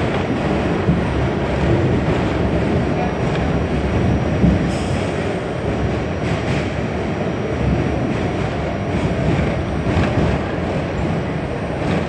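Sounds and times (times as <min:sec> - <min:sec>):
subway car rumbling on rails: 0:00.0 - 0:12.0.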